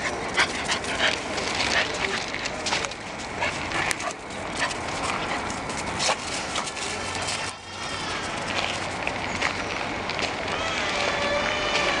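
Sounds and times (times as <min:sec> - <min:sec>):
dogs playing: 0:00.0 - 0:10.5
dog paws scuffling on dirt: 0:00.0 - 0:12.0.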